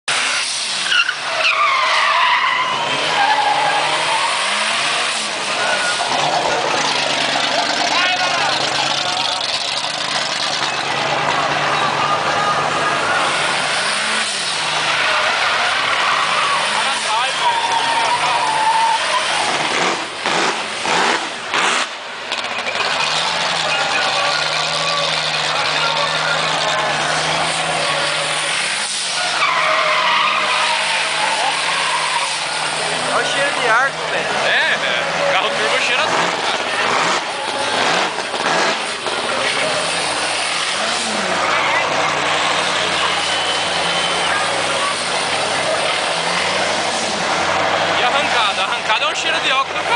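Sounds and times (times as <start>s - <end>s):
car engines running: 0.0s - 49.9s.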